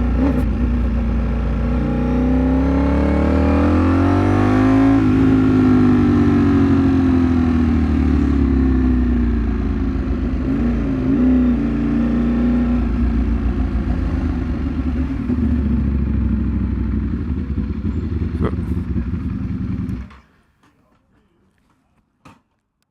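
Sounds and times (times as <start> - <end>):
motorcycle engine: 0.0 - 20.3.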